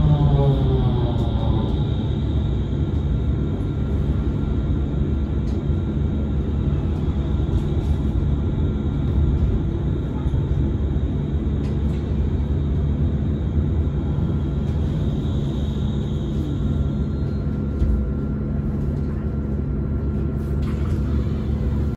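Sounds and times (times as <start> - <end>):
bus running gear rumble: 0.0 - 21.9.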